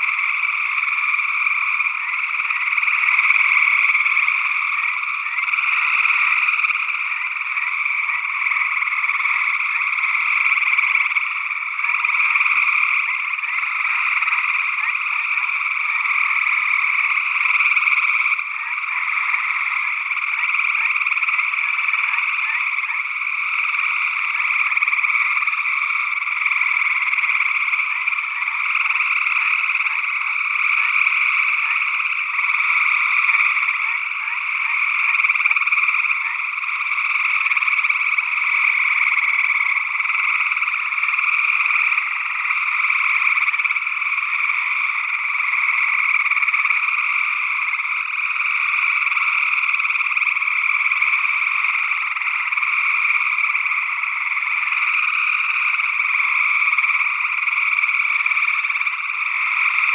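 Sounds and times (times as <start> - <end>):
chorus of treefrogs trilling: 0.0 - 59.9.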